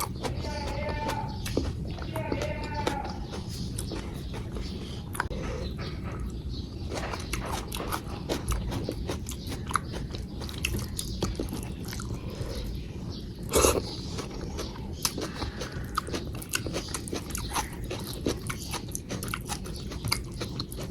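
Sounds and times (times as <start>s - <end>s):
person chewing and biting food: 0.0s - 5.4s, 6.2s - 12.8s, 13.4s - 20.9s.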